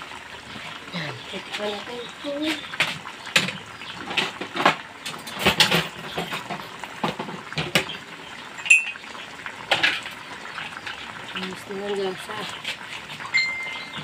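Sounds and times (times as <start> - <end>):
food bubbling in a wok: 0.0 - 14.0.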